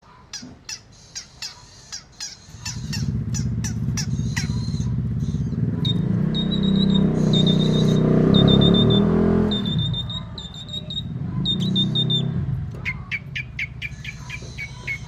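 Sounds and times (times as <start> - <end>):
bird giving short downward calls: 0.3 - 15.0.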